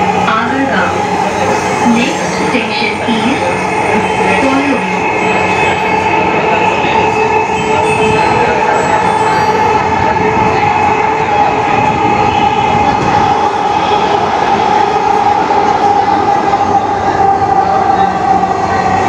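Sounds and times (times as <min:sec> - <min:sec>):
train rolling rumble with whine: 0:00.0 - 0:19.0.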